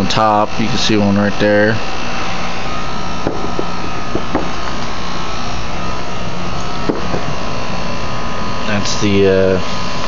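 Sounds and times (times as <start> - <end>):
fan with low hum: 0.0 - 10.0.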